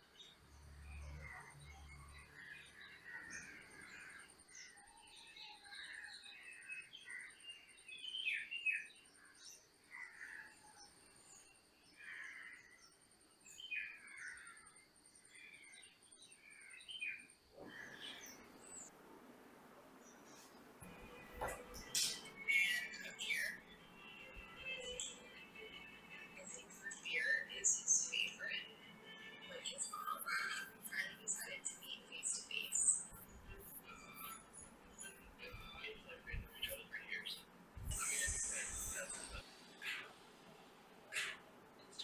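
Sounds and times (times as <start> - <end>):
small birds chirping: 0.0 - 18.9, 20.0 - 42.0.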